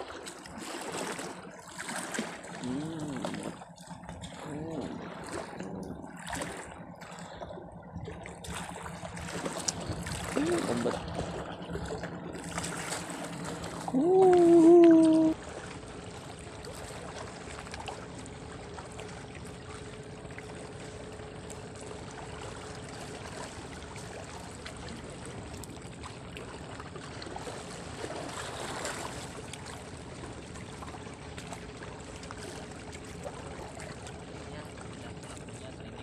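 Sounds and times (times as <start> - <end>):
small waves lapping on rocks: 0.0 - 21.6, 22.4 - 36.0
faint steady hum: 1.5 - 36.0.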